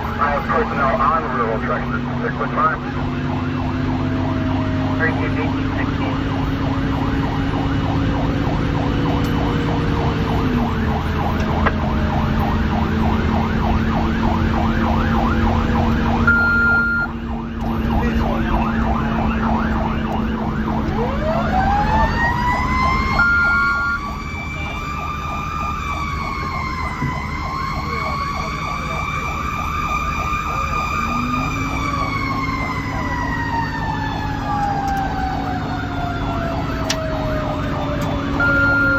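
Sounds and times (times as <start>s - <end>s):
siren wailing: 0.0s - 38.9s
siren yelping: 0.0s - 38.9s
truck engine rumble: 0.0s - 38.9s.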